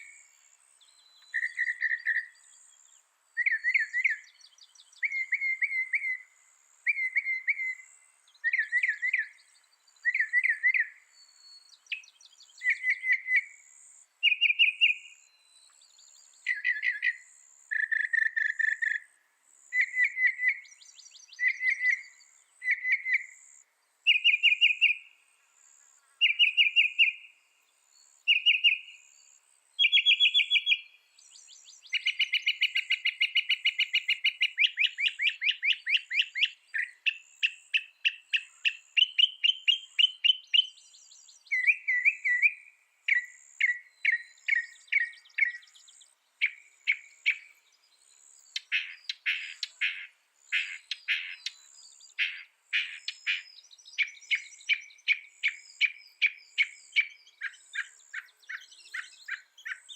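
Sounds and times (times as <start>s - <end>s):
mockingbird singing: 1.0s - 2.5s, 3.4s - 6.2s, 6.9s - 13.5s, 14.2s - 15.2s, 16.2s - 19.1s, 19.7s - 25.1s, 25.9s - 27.3s, 28.3s - 59.9s.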